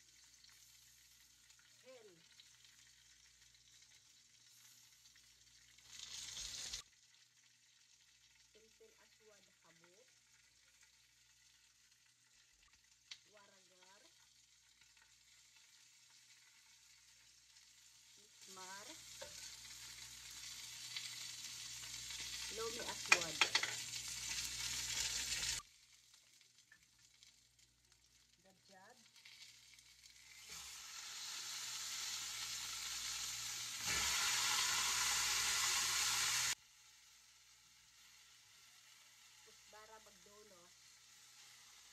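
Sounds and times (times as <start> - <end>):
chicken sizzling in hot pot: 0.0 - 41.9.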